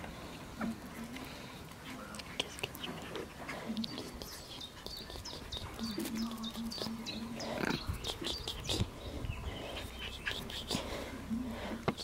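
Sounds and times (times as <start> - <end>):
puppies snuffling and sniffing: 0.0 - 12.0.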